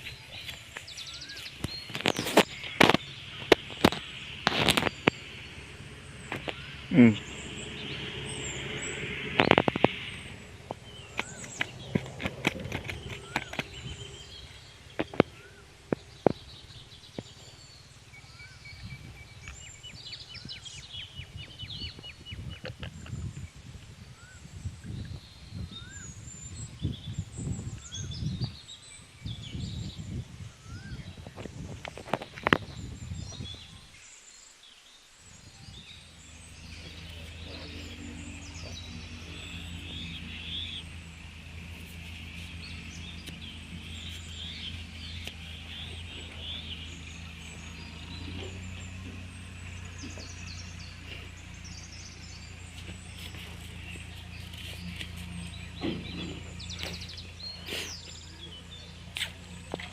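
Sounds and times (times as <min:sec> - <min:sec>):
high chirping bird trill: 0:00.0 - 0:31.2, 0:35.3 - 0:59.9
low rough rumble: 0:00.0 - 0:33.8, 0:35.2 - 0:59.9
steady low hum: 0:00.0 - 0:33.8, 0:35.2 - 0:59.9
birds whistling: 0:00.0 - 0:59.9.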